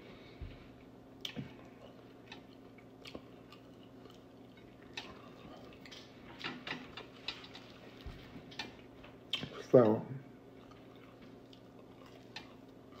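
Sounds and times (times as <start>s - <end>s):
person chewing food: 0.0s - 9.6s, 10.4s - 13.0s
faint steady hum: 0.0s - 13.0s.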